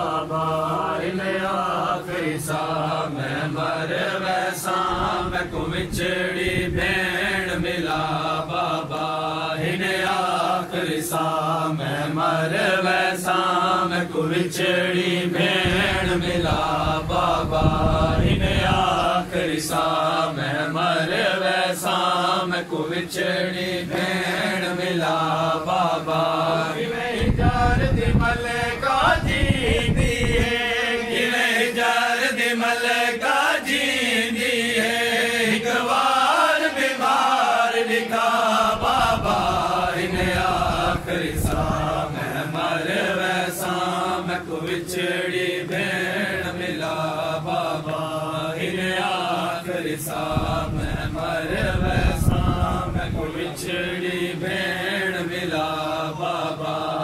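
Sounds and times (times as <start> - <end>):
men chanting a lament in unison: 0.0 - 57.0.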